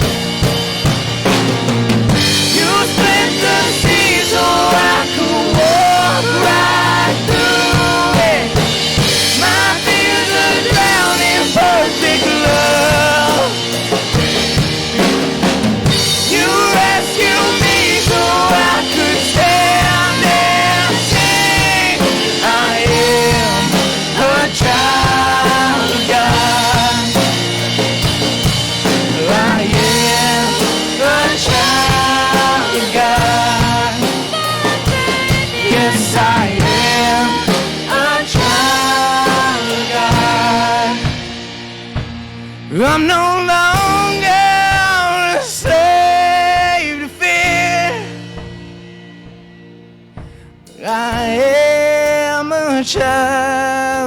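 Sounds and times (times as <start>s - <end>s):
people singing: 0.0s - 42.0s, 42.7s - 48.5s, 50.7s - 54.0s
live band playing: 0.0s - 54.0s.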